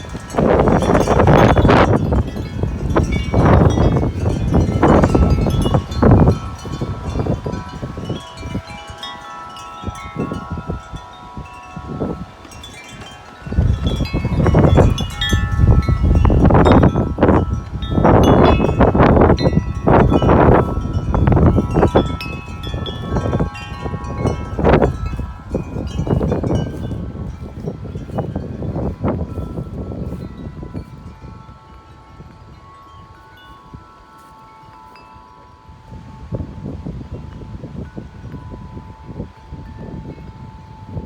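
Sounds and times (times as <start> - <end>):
metal wind chimes ringing: 0.0 - 41.0
wind buffeting microphone: 0.0 - 41.0.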